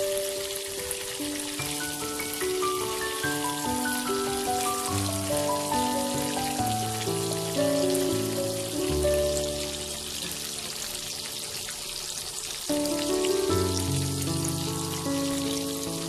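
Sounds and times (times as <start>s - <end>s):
oil sizzling and crackling: 0.0s - 16.0s
slow background music: 0.0s - 16.0s.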